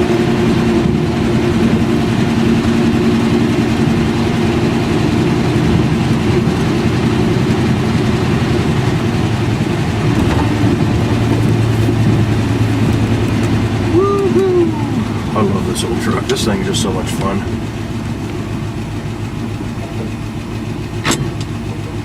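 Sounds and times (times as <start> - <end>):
truck engine driving: 0.0 - 22.0.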